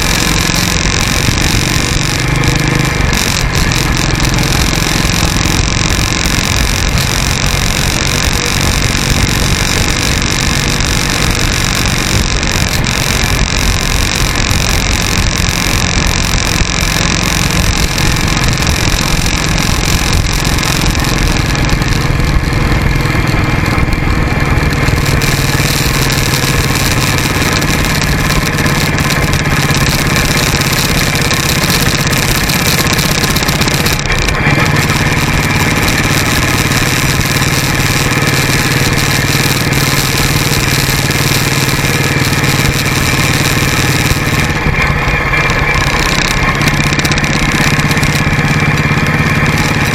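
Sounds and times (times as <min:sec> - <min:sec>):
motorcycle engine running: 0:00.0 - 0:49.9
road noise: 0:00.0 - 0:49.9.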